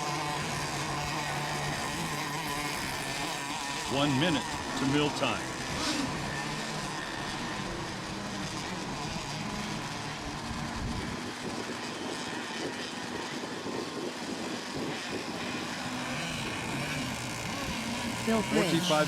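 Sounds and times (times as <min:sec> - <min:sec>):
model boat engines buzzing: 0:00.0 - 0:19.0.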